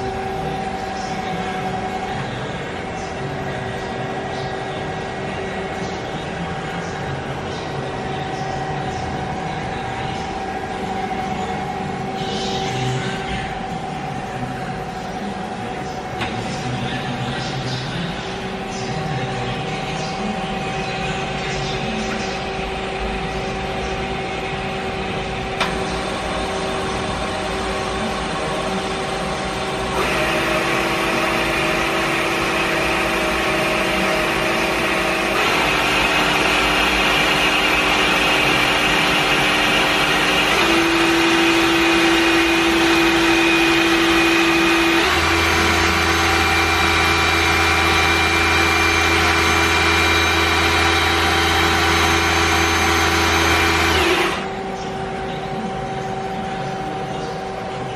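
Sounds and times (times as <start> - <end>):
lathe mechanical whine: 0.0 - 57.9.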